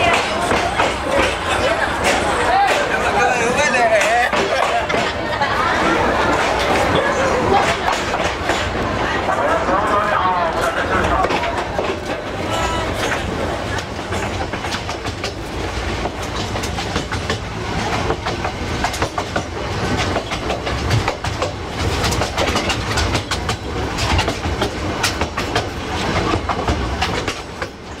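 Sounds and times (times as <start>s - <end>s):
train rumbling along track: 0.0s - 28.0s
wheels clattering on rails: 0.0s - 28.0s.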